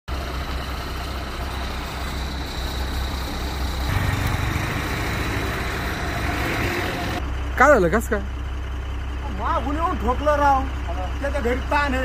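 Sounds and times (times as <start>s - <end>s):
heavy vehicle engine idling: 0.1s - 12.0s.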